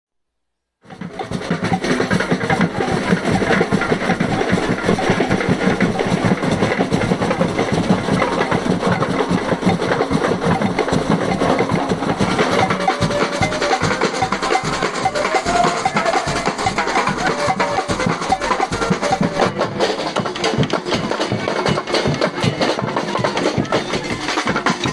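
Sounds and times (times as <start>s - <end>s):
fast band drumming: 0.9s - 24.9s.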